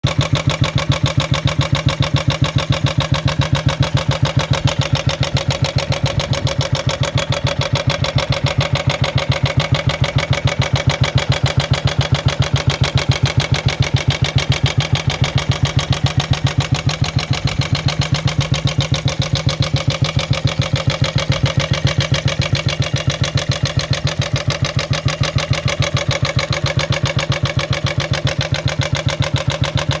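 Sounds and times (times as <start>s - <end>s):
engine clattering rattle: 0.0s - 30.0s
motorcycle engine idling: 0.0s - 30.0s.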